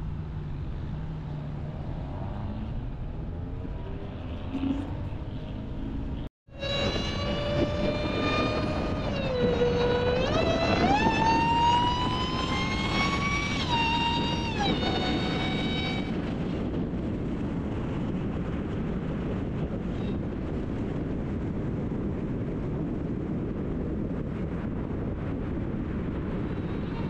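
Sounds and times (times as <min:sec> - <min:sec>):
road noise: 0:00.0 - 0:27.0
supercharger whining: 0:00.0 - 0:27.0.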